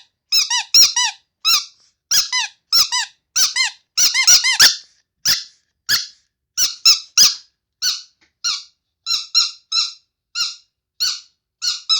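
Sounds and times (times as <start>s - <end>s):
squeaky toy squeaks: 0.0s - 11.9s.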